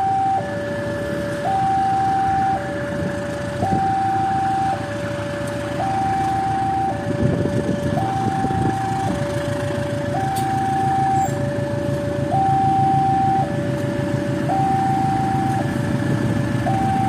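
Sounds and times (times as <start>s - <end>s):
low train rumble: 0.0s - 17.0s
two-tone crossing alarm: 0.0s - 17.0s.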